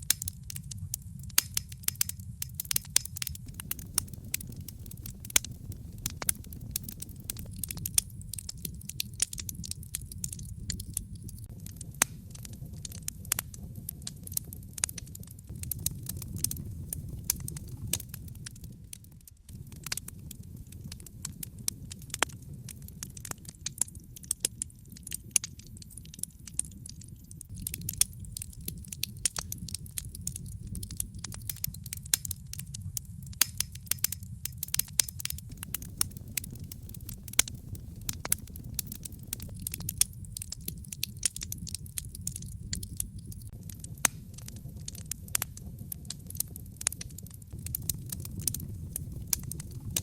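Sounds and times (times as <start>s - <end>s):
low fire rumble: 0.0s - 50.0s
wood fire crackling: 0.0s - 50.0s.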